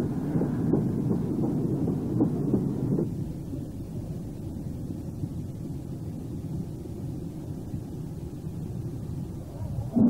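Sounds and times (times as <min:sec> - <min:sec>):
sharp exhaust beat: 0:00.0 - 0:09.4
steam locomotive rumble: 0:00.0 - 0:10.0.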